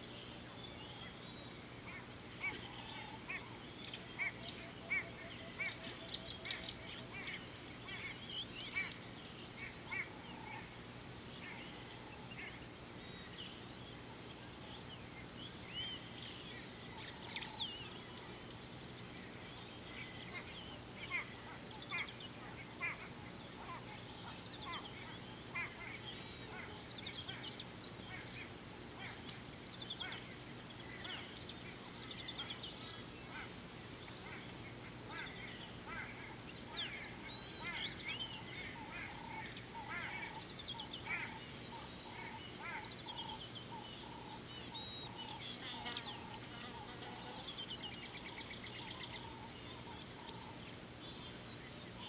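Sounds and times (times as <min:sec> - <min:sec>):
birds chirping and calling: 0:00.0 - 0:52.0.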